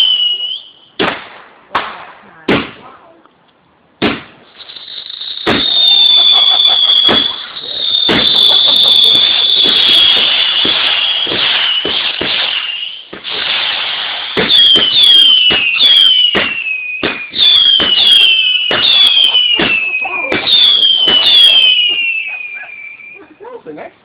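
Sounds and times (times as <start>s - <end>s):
firework whistle with crackling: 0.0s - 1.0s, 4.4s - 23.3s
whistling firework shots: 0.0s - 2.8s, 4.0s - 23.2s.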